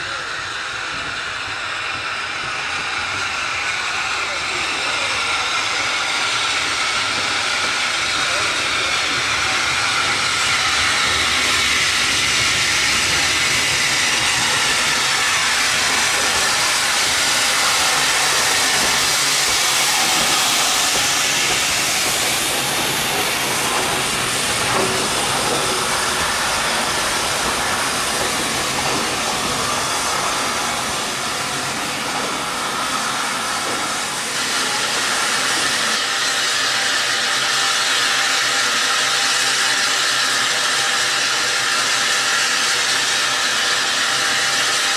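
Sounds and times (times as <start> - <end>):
steam locomotive hissing: 0.0 - 44.9.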